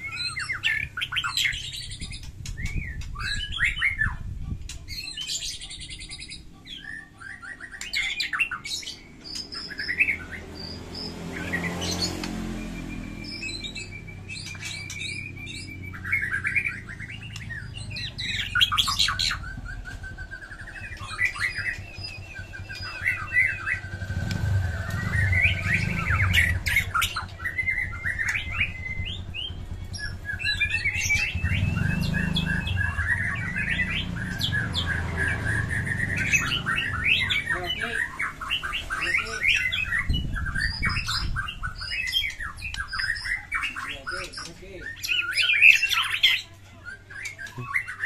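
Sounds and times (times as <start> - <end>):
songbird whistles and trills: 0.0 - 48.0.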